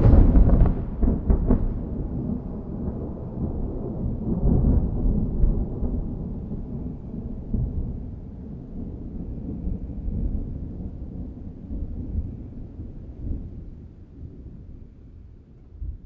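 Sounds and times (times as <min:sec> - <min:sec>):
rolling thunder rumble: 0:00.0 - 0:16.0
thunder crackles: 0:00.0 - 0:16.0.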